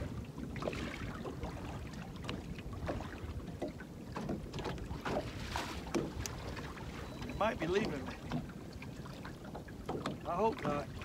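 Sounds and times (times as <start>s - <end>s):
small waves lapping against hull: 0.0s - 11.0s.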